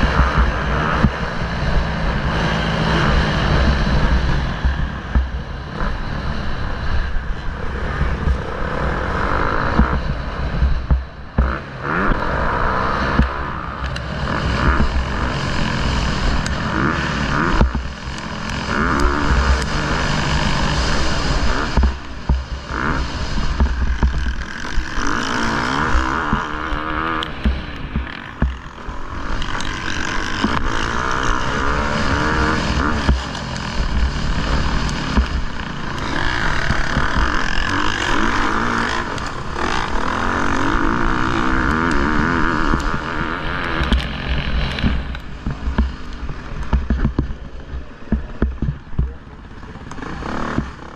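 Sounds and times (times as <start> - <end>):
motorbike engine revving: 0.0 - 50.9
wind rumble on microphone: 0.0 - 50.9.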